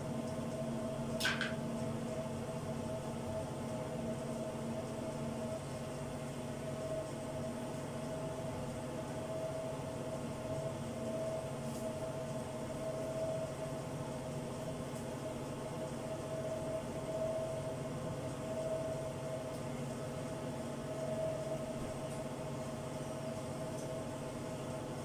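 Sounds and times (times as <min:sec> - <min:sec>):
motor humming with whine: 0:00.0 - 0:25.0.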